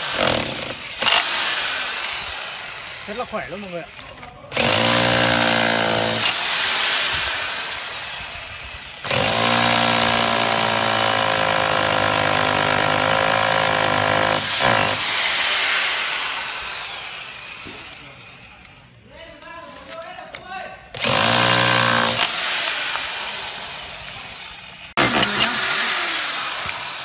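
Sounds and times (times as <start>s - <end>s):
rotary hammer drill on concrete: 0.0s - 18.9s, 21.0s - 27.0s.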